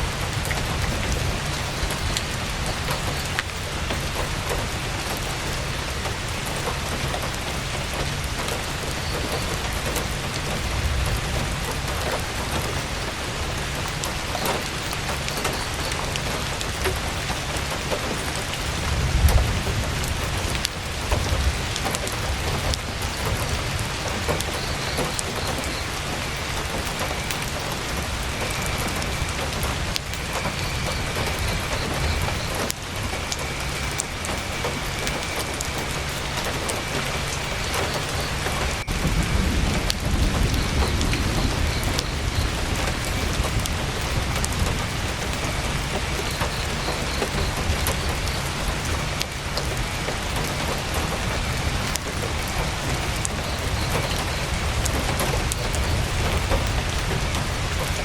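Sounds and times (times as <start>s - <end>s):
campfire crackling: 0.0s - 58.0s
heavy rain on a tent: 0.0s - 58.0s.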